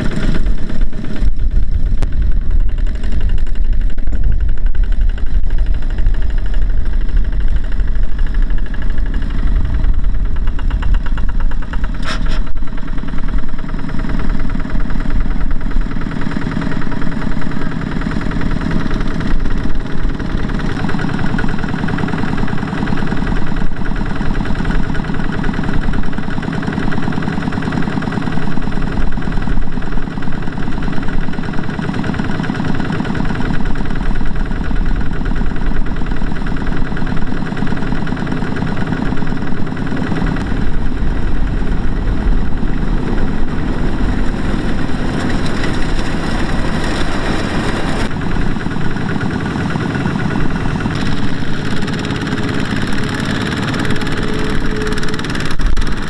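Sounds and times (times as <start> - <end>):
diesel engines chugging: 0.0 - 56.0.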